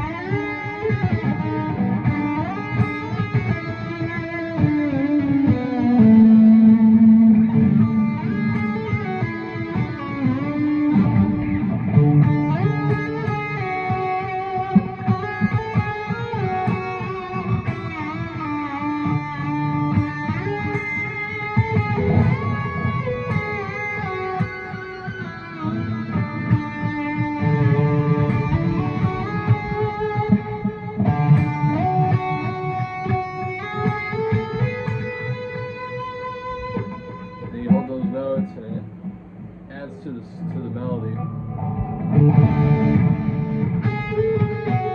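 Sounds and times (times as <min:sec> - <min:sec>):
guitar melody: 0:00.0 - 0:44.9.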